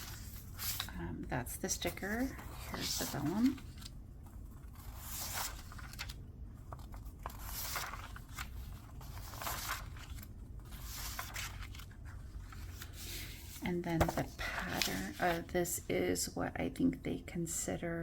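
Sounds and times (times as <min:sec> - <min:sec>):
paper rustling and sliding: 0:00.0 - 0:01.0, 0:01.8 - 0:15.5.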